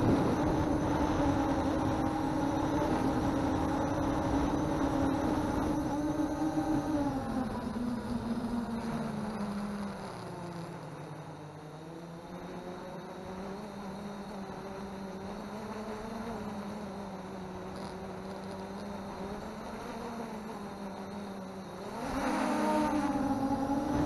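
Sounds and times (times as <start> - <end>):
quadcopter motors buzzing: 0.0 - 24.0.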